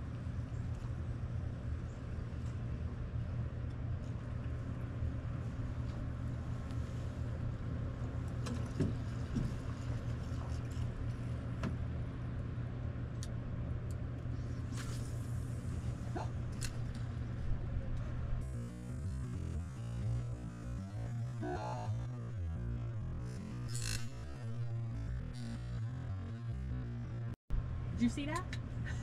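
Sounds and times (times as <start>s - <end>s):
low machine drone: 0.0s - 29.0s.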